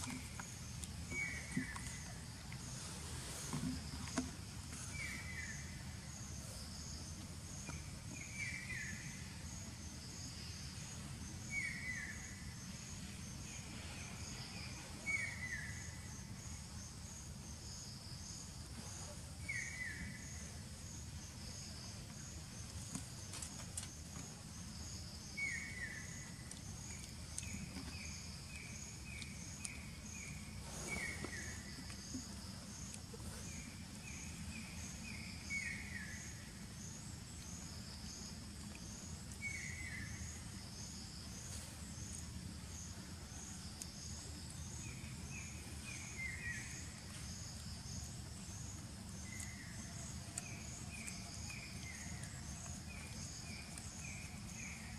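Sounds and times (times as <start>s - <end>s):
insect chirping: 0.0s - 54.9s.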